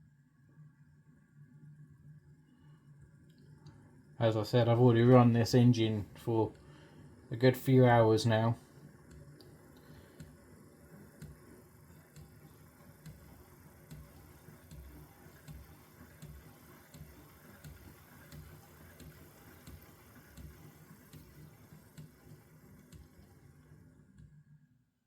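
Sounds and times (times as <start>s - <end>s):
faint model train ticks: 3.3s - 23.8s.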